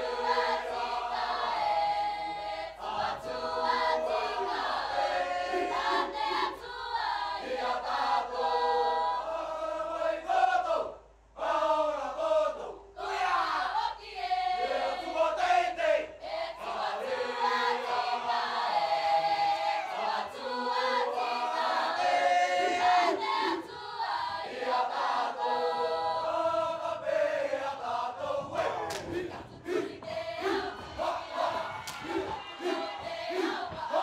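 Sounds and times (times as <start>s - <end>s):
mixed choir singing: 0.0s - 34.0s.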